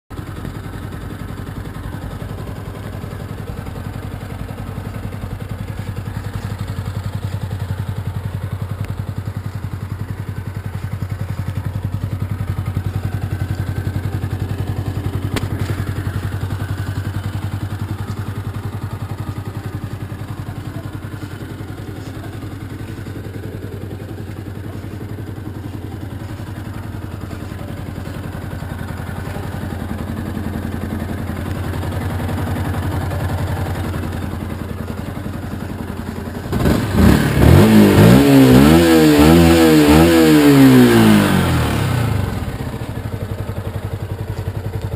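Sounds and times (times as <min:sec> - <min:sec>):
motorcycle engine idling: 0:00.1 - 0:44.9.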